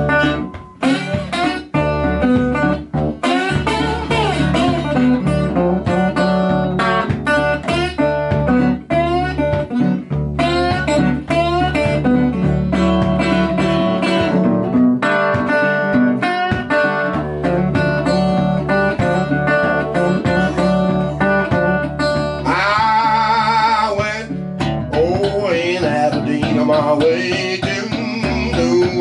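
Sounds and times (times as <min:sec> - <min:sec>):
slide guitar blues: 0:00.0 - 0:29.0.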